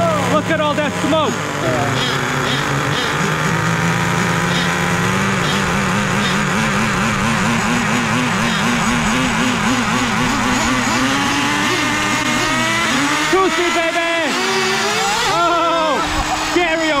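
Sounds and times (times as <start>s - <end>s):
small nitro engines running: 0.0s - 17.0s.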